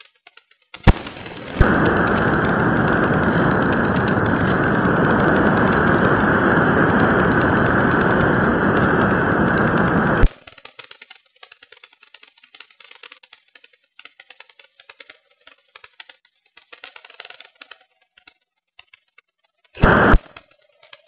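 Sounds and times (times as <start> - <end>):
faint clicking and crackling: 0.0 - 21.0.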